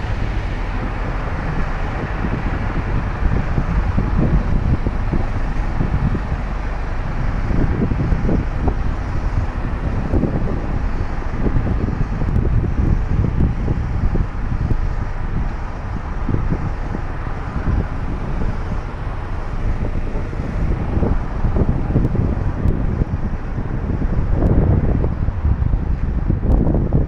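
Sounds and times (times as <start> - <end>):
vehicle rumble: 0.0 - 27.0
wind buffeting microphone: 0.0 - 27.0.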